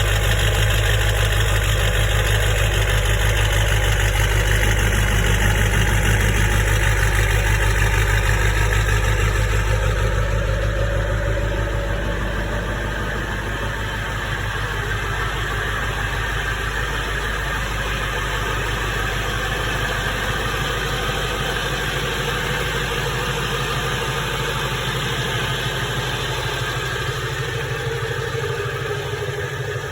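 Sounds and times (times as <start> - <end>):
diesel engine idling with clatter: 0.0 - 29.9.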